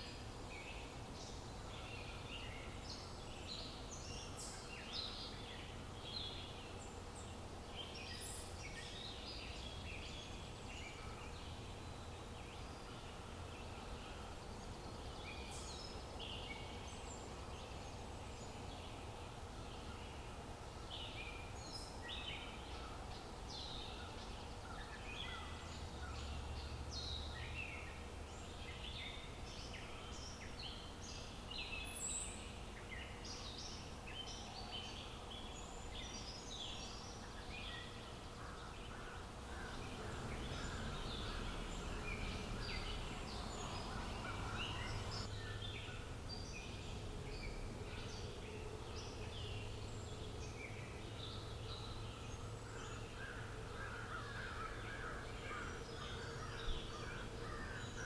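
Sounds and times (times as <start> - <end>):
birds chirping: 0.0 - 58.0
outdoor ambience: 0.0 - 58.0.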